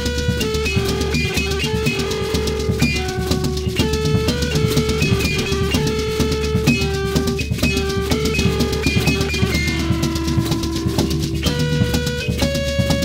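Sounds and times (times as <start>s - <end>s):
drum kit played fast: 0.0s - 13.0s
held pitched notes: 0.0s - 13.0s.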